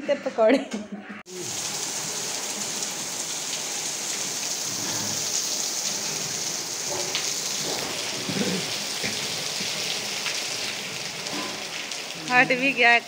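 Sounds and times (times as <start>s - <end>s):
heavy rain on concrete: 1.3s - 13.0s.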